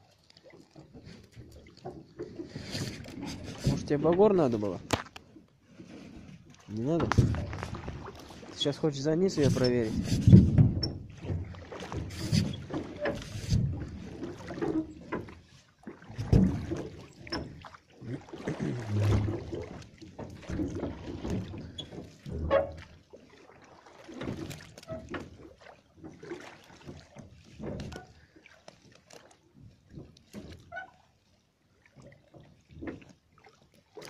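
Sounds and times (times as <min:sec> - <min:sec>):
water splashing against metal boat: 0:00.0 - 0:34.0
knocks and thumps on hull: 0:00.4 - 0:34.0.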